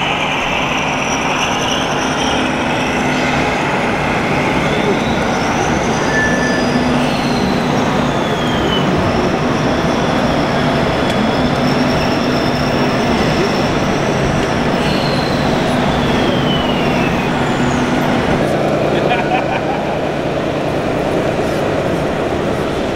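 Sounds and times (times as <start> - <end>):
busy hall din: 0.0 - 22.9.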